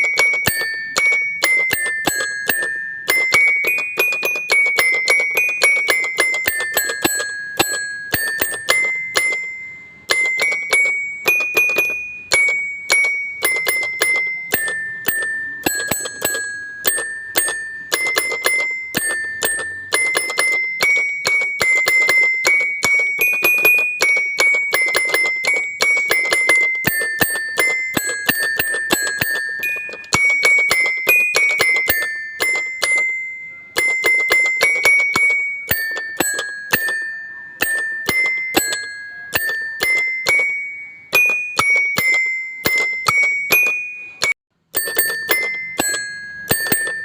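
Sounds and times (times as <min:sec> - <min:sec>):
bell-like melody: 0:00.0 - 0:47.0.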